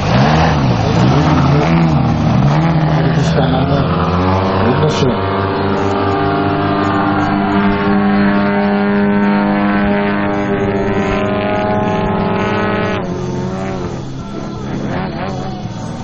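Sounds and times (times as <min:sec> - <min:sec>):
model plane engines droning: 0:00.0 - 0:16.0.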